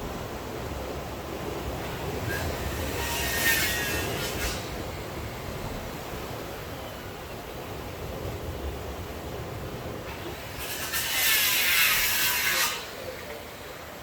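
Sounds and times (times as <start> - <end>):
surf: 0.0 - 14.0.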